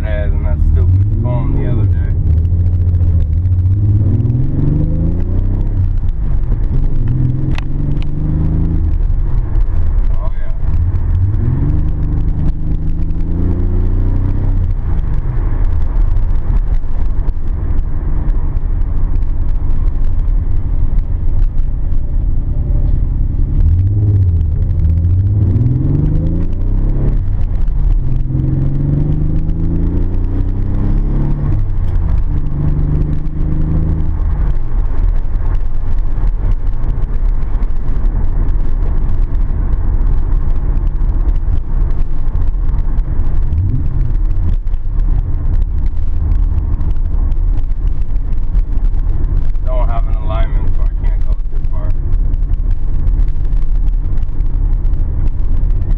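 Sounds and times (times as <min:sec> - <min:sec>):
car engine revving under way: 0:00.0 - 0:55.9.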